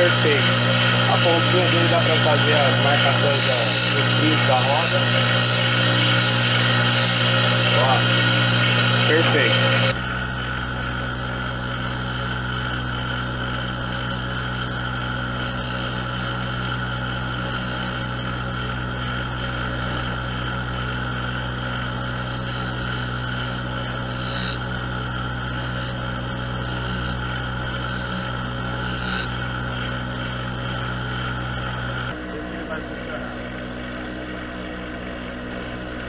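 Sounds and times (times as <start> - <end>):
chisel cutting spinning wood: 0.0 - 32.2
lathe motor running: 0.0 - 36.0.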